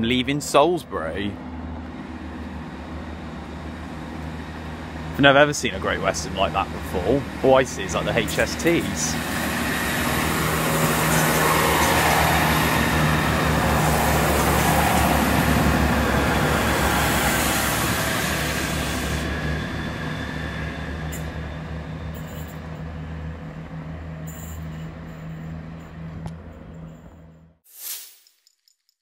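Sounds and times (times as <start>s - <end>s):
train rushing past: 0.0s - 24.3s
low train engine hum: 0.0s - 27.5s.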